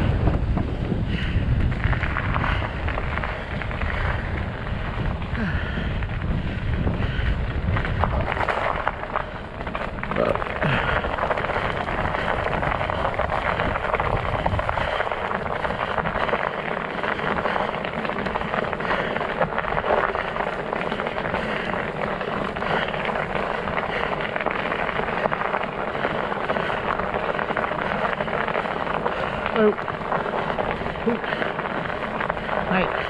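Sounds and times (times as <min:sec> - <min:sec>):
low rumble: 0:00.0 - 0:33.0
studded tires crunching on snow: 0:00.0 - 0:33.0.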